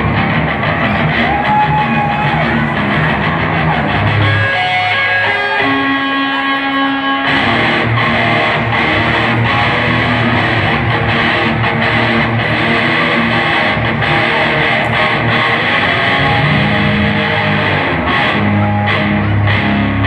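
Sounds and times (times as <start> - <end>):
electric guitar chord ringing: 0.0 - 20.0
live rock band playing: 0.0 - 20.0.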